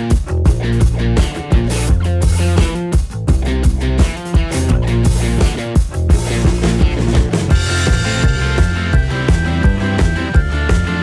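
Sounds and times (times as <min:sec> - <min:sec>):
rock music with steady beat: 0:00.0 - 0:11.0.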